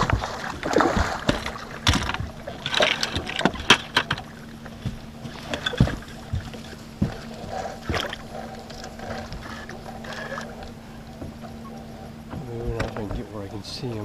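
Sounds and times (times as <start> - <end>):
faint low hum: 0.0 - 14.0
water splashing: 0.0 - 14.0.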